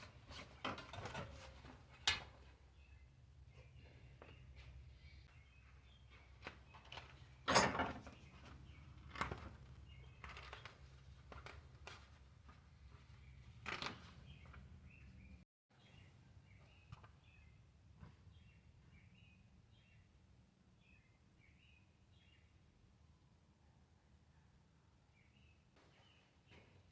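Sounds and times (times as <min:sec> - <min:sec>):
faint birds chirping: 0:01.9 - 0:07.4, 0:08.0 - 0:22.9, 0:23.6 - 0:26.9.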